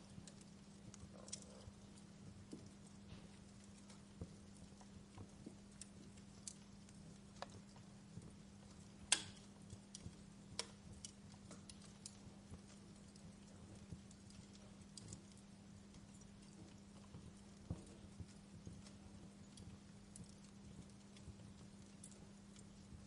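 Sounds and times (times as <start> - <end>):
fire crackling and popping: 0.0 - 23.0
steady low hum: 0.0 - 23.0.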